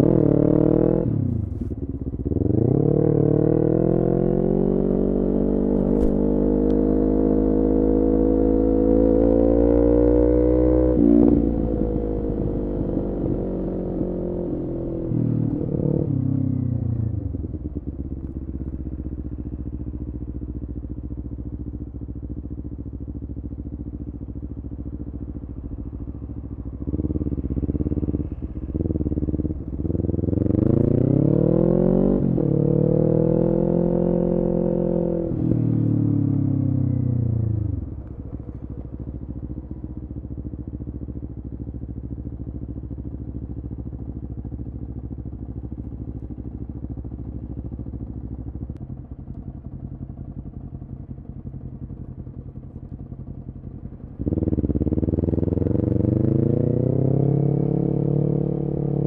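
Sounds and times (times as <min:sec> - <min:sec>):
motorcycle engine revving: 0:00.0 - 0:21.0, 0:21.6 - 0:59.0.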